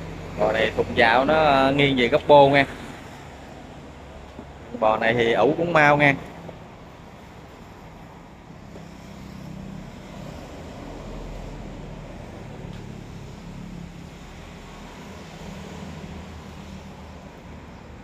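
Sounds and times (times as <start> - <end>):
vehicle engine drone: 0.0 - 18.0.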